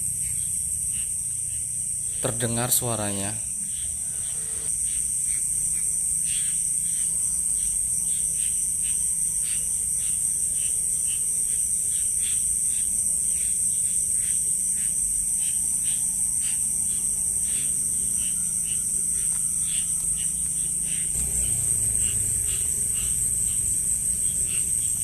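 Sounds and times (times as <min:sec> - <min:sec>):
crickets and insects droning: 0:00.0 - 0:25.0
frogs calling: 0:00.0 - 0:25.0.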